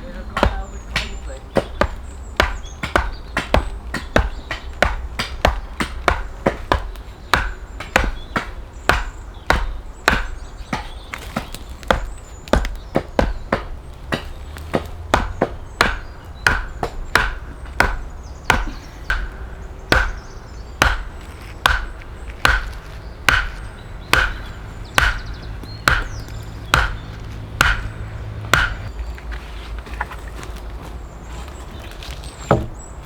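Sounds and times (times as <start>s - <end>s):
axe chopping a log: 0.1s - 29.0s, 32.4s - 32.8s.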